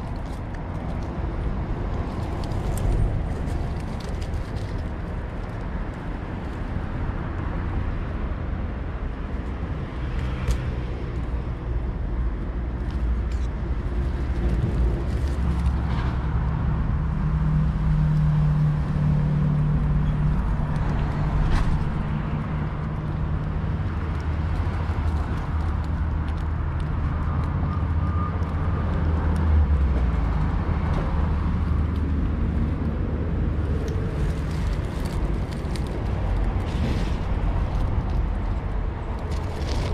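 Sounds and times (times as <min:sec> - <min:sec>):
engine hum: 0:00.0 - 0:39.9
road traffic rumble: 0:00.0 - 0:39.9.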